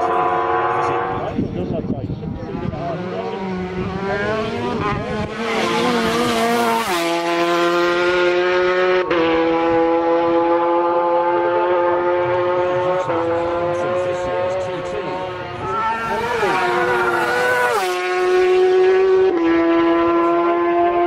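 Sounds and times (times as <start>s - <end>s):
racing motorcycle engine at full throttle: 0.0s - 21.0s.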